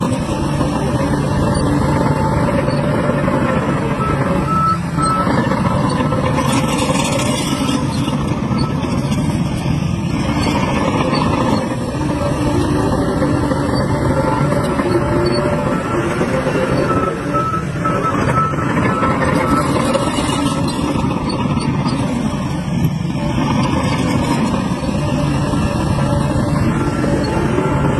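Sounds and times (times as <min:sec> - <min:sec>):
dump truck diesel engines: 0:00.0 - 0:27.9
reversing alarm beeping: 0:00.3 - 0:09.5, 0:10.2 - 0:22.1, 0:24.8 - 0:27.9.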